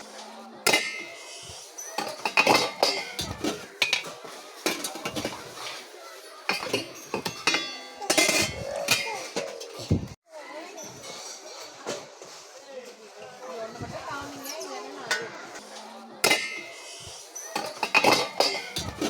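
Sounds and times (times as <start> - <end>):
metal dishes and utensils clinking: 0.0 - 13.0, 14.3 - 19.0.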